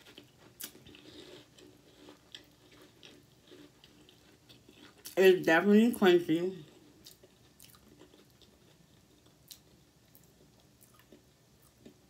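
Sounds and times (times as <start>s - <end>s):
chewing crunchy cereal: 0.0s - 5.2s, 6.6s - 12.0s.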